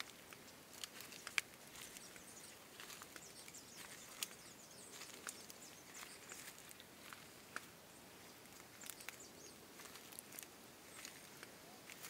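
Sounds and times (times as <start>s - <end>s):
footsteps on leaves and twigs: 0.0s - 12.0s.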